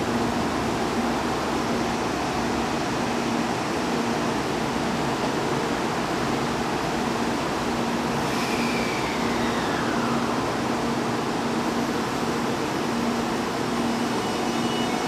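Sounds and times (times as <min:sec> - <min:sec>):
train rushing noise: 0:00.0 - 0:15.0.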